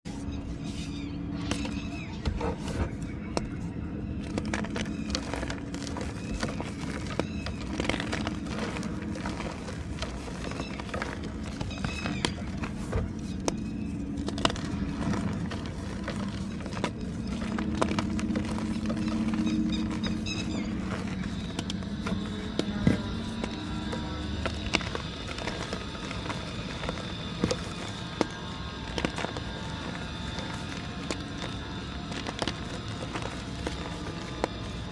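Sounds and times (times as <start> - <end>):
chalk crunching by hand: 0.1 - 34.9
steady low drone: 0.1 - 34.9.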